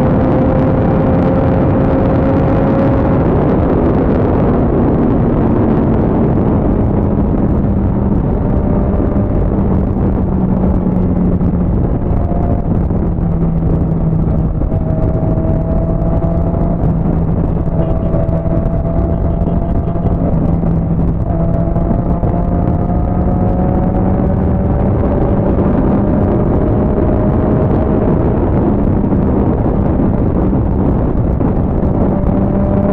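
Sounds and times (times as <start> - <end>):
motorcycle engine cruising: 0.0 - 32.9
wind rush on microphone: 0.0 - 32.9.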